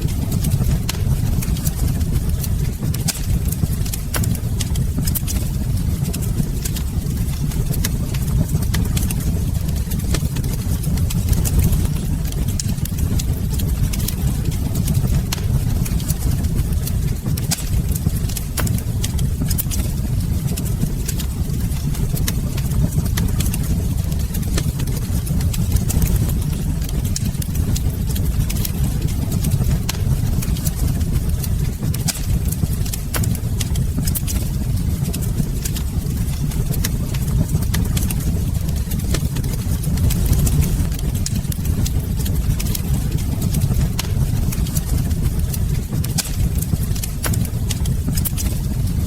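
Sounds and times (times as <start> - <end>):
fire burning rumble: 0.0 - 49.0
fire snaps and pops: 0.0 - 49.0.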